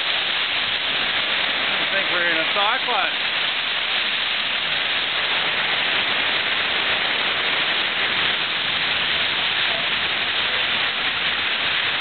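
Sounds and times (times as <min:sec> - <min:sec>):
strong wind: 0:00.0 - 0:12.0
torrential rain: 0:00.0 - 0:12.0.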